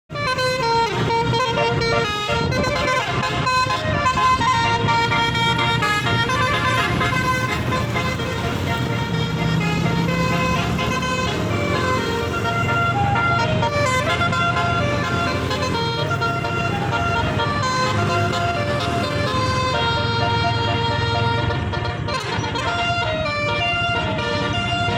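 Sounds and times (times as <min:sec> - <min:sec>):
low hum of bus: 0:00.1 - 0:24.9
musical horn playing a melody: 0:00.1 - 0:24.9.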